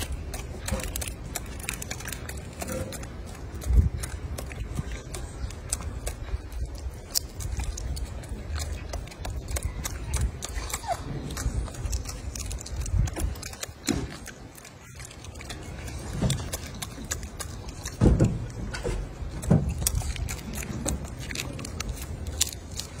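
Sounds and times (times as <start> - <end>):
eggshell crackling and chewing: 0.0 - 23.0.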